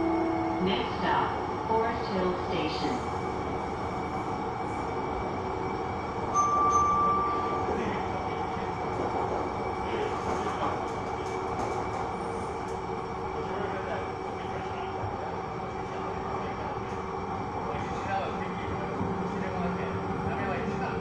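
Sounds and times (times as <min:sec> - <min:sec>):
rail car rumble and hiss: 0:00.0 - 0:21.0.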